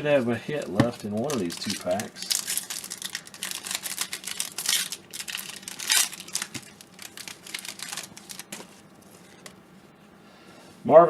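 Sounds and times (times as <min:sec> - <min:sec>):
card pack wrapper crackling: 0:00.6 - 0:09.5.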